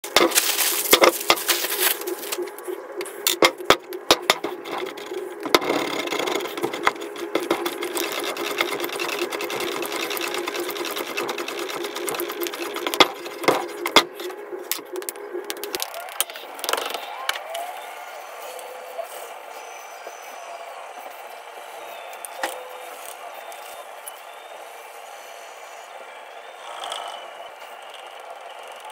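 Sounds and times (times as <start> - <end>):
pottery wheel spinning: 0.0 - 28.9
steady hum: 0.0 - 28.9.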